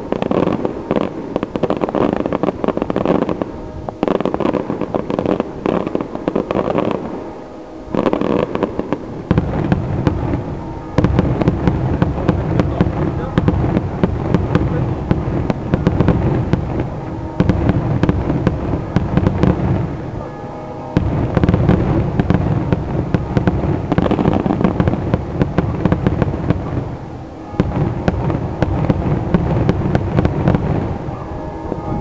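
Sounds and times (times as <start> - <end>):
fireworks bursting with bangs: 0.0 - 7.3, 7.9 - 32.0
low rumble: 4.6 - 32.0.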